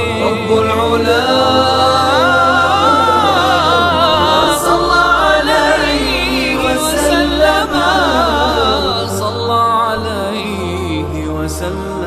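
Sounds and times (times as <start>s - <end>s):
person singing ornamented notes: 0.0s - 12.0s
steady low drone: 0.0s - 12.0s.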